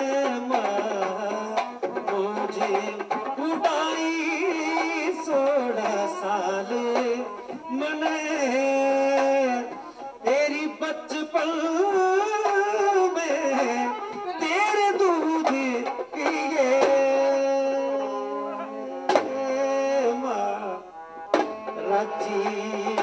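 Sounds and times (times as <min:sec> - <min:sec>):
harmonium: 0:00.0 - 0:23.0
man singing into microphone: 0:00.0 - 0:23.0.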